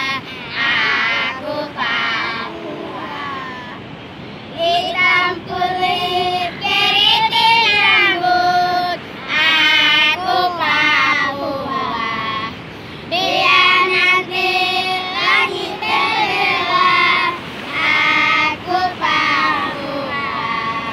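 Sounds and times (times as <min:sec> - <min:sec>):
girls singing together: 0:00.0 - 0:20.9.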